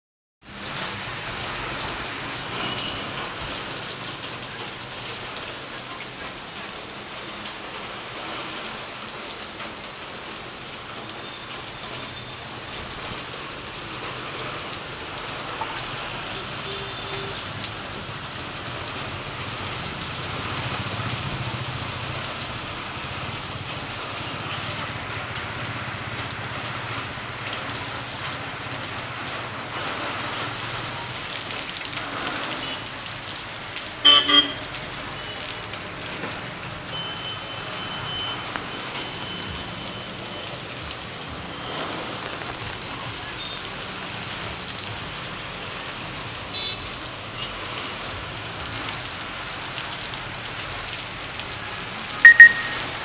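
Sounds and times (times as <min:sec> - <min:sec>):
heavy rain on pavement: 0:00.4 - 0:53.0.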